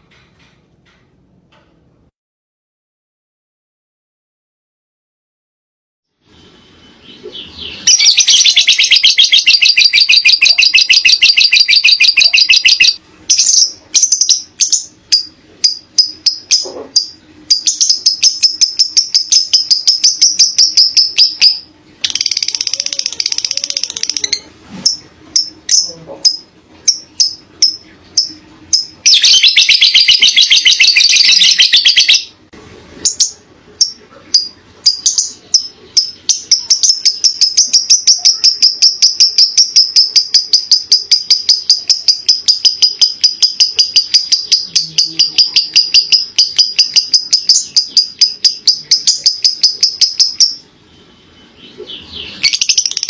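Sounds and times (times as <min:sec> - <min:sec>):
bird chattering in rapid trills: 0:07.0 - 0:32.4, 0:33.0 - 0:53.0.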